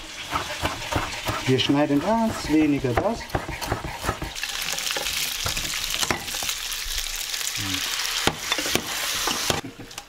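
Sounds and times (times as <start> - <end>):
pasta sizzling in a pan: 0.0 - 10.0.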